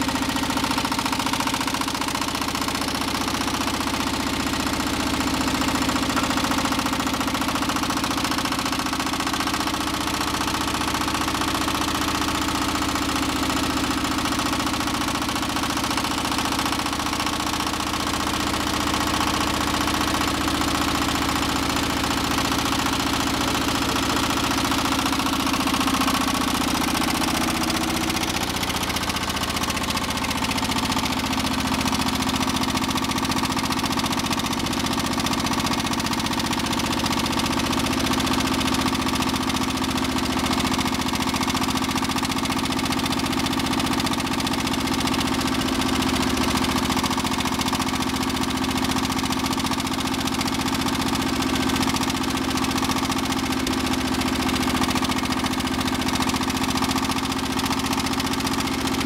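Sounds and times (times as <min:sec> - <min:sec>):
stationary engine running: 0:00.0 - 0:59.0.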